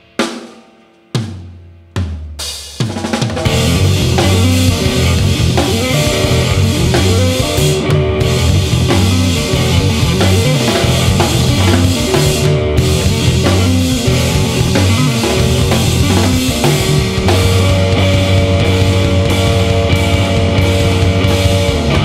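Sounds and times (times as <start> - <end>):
drum kit: 0.0 - 22.0
bass guitar: 3.4 - 22.0
electric guitar: 3.4 - 22.0.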